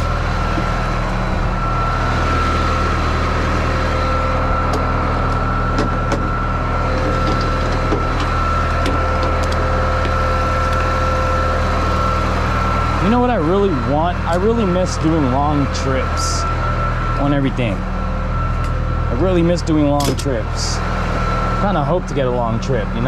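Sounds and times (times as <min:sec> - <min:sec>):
thin steady whine: 0:00.0 - 0:23.0
truck engine running: 0:00.0 - 0:23.0.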